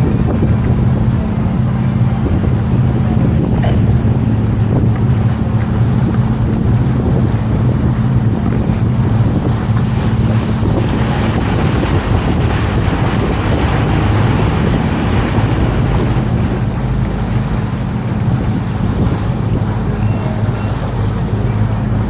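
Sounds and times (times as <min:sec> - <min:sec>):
boat motor humming: 0:00.0 - 0:22.0
water washing: 0:00.0 - 0:22.0
wind buffeting microphone: 0:00.0 - 0:22.0.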